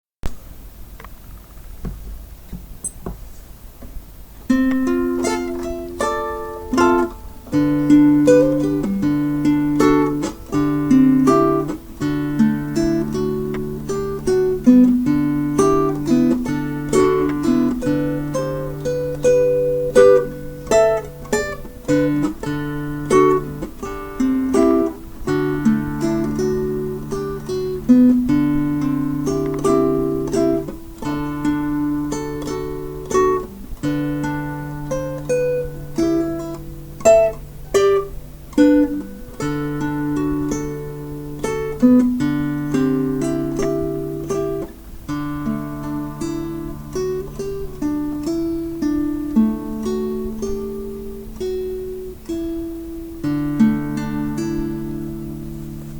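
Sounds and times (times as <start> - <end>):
acoustic guitar plucked notes: 3.9 - 55.9.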